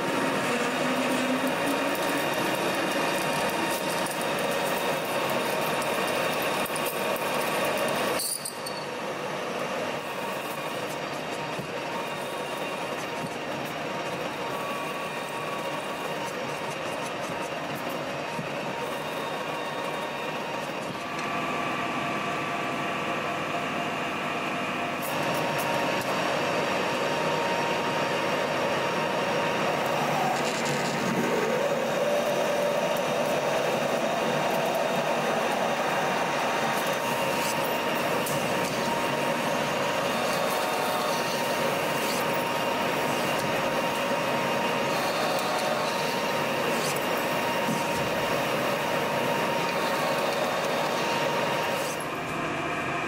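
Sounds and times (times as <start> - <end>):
drill boring into steel: 0.0 - 21.1, 25.1 - 52.3
metal lathe running: 0.0 - 53.0
phase converter hum: 0.0 - 53.0.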